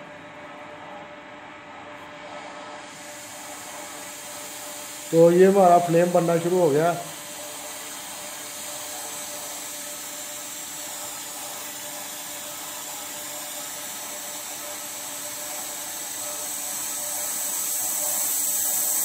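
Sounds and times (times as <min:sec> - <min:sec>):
welding torch flame hissing: 0:02.4 - 0:19.0.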